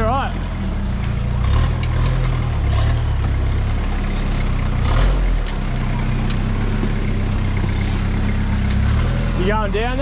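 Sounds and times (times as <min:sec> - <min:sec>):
diesel engine running at low revs: 0:00.0 - 0:10.0.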